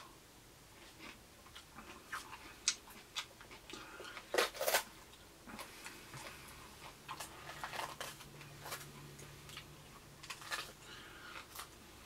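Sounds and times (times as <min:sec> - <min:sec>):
person chewing crunchy vegetables: 0:00.8 - 0:12.0.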